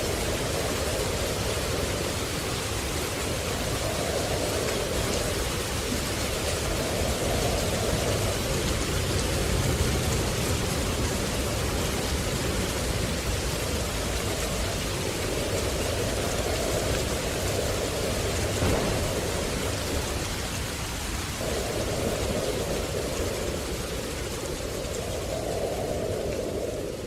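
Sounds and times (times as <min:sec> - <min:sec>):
falling water rushing: 0:00.0 - 0:27.0.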